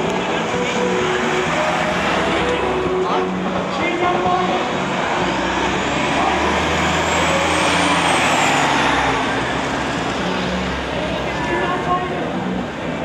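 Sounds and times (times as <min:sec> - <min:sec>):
car driving past: 0:00.0 - 0:12.8
coach engine passing: 0:00.0 - 0:13.0.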